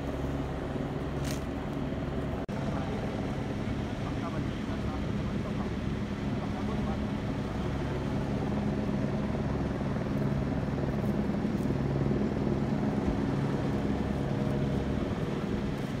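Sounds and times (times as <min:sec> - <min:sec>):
engine drone: 0:00.0 - 0:16.0.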